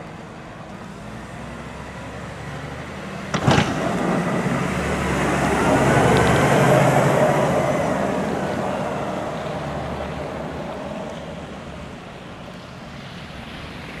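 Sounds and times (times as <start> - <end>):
tractor diesel engine: 0.0 - 12.3
snowplow blade scraping slush: 1.0 - 14.0.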